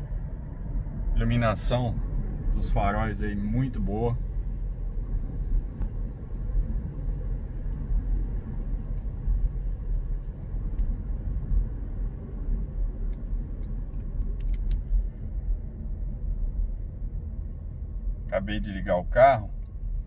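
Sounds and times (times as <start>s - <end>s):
car engine at low revs: 0.0s - 20.0s
road and tyre rumble: 0.0s - 20.0s.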